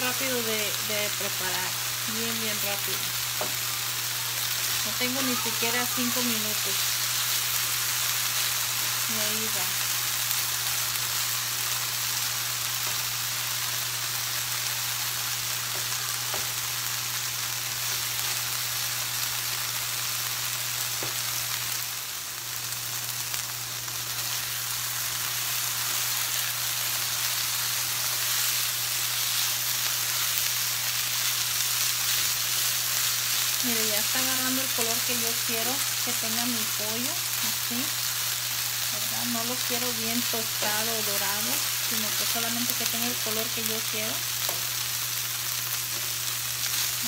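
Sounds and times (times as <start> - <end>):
chicken sizzling in frying pan: 0.0 - 47.0.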